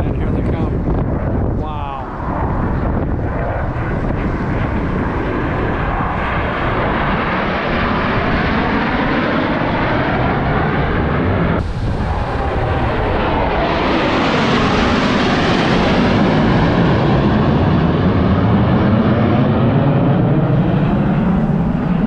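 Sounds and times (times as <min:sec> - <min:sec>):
aircraft engines roaring: 0:00.0 - 0:22.0.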